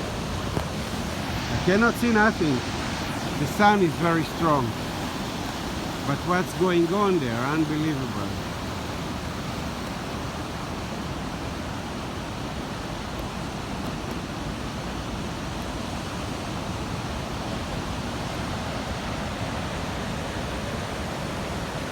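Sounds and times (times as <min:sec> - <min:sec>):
heavy ocean surf roaring: 0:00.0 - 0:21.9.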